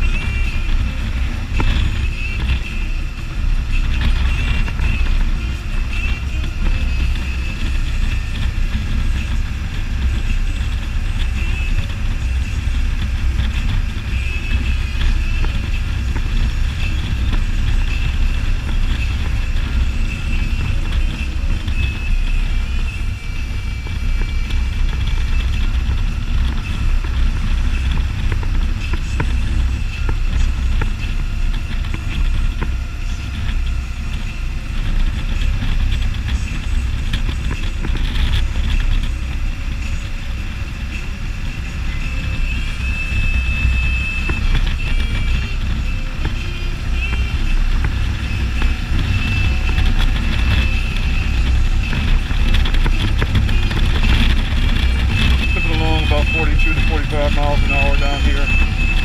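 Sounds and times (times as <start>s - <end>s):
motorcycle engine drone: 0.0s - 59.0s
road and wind noise: 0.0s - 59.0s.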